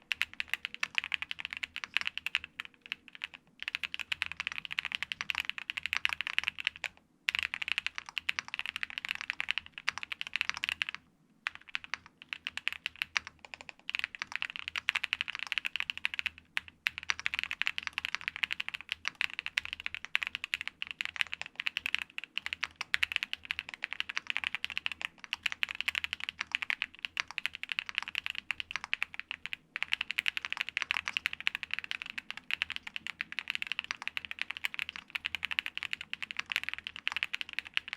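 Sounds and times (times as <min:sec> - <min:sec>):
fast typing on mechanical keyboard: 0:00.0 - 0:37.9.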